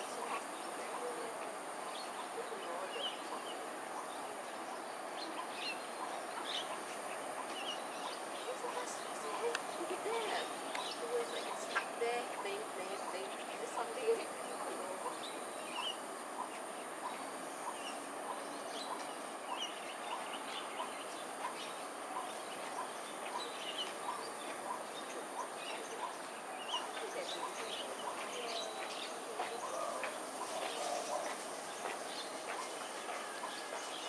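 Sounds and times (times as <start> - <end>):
steady high hiss: 0.0 - 34.0.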